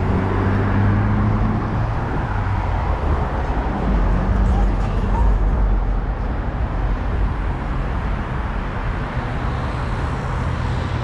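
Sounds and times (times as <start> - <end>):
rumble of passing cars: 0.0 - 11.0.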